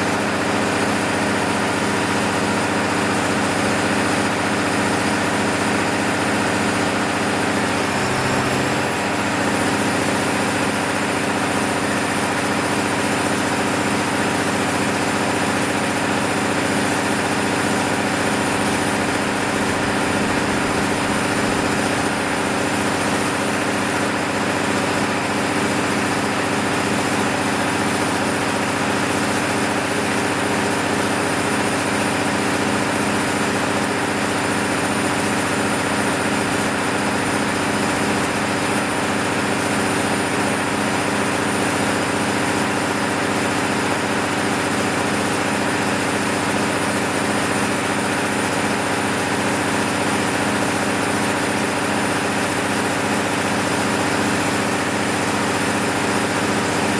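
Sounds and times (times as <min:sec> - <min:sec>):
diesel generator engine running: 0:00.0 - 0:56.9.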